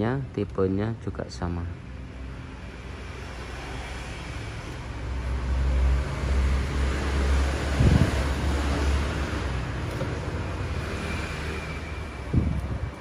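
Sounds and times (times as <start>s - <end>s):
vehicle engine rumble passing: 2.3s - 13.0s.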